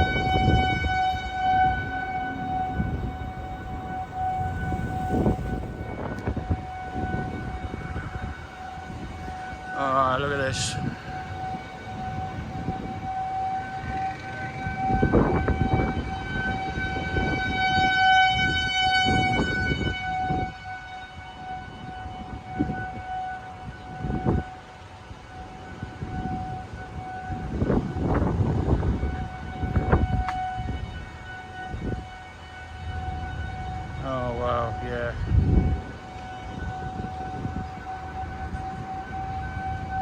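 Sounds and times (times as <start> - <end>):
warning siren steady tone: 0.0 - 40.0
wind buffeting microphone: 0.0 - 40.0.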